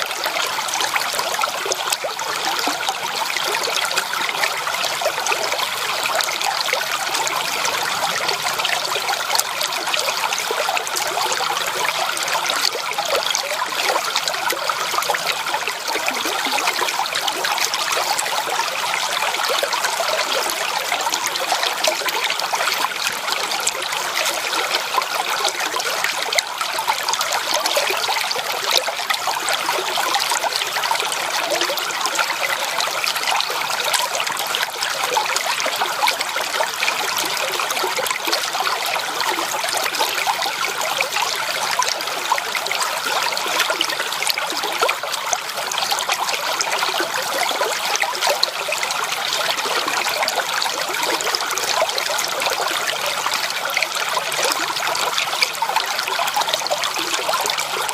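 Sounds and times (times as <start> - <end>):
creek water babbling over stones: 0.0 - 57.9.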